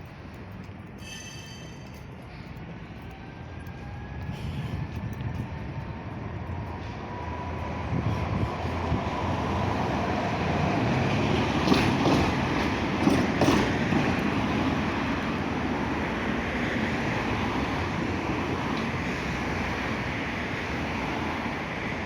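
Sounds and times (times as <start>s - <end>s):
tram approaching: 0.0s - 22.0s.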